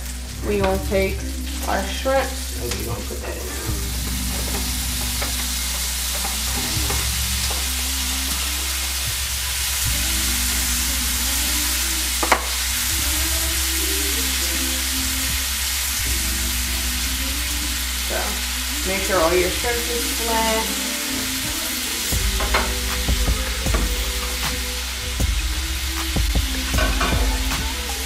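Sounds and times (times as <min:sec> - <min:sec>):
shrimp sizzling in a frying pan: 0:00.0 - 0:28.0.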